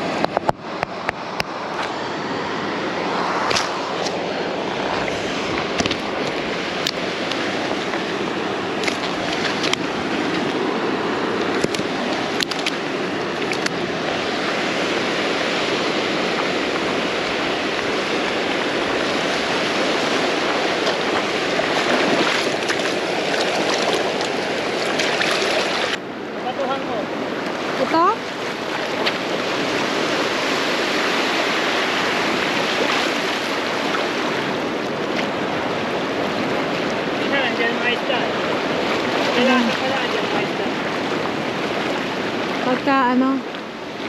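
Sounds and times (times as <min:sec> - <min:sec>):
waves breaking on beach: 0:00.0 - 0:44.0.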